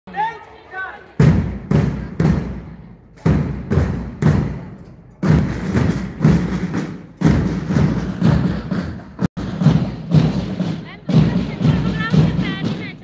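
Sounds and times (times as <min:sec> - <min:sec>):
marching band drums beating: 0:01.2 - 0:13.0.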